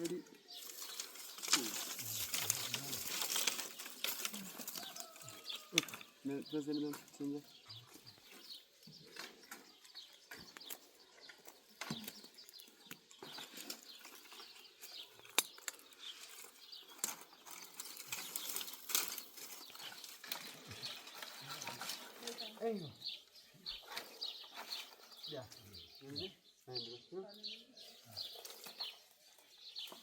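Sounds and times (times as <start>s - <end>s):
branches rustling: 0.0s - 26.2s, 27.8s - 30.0s.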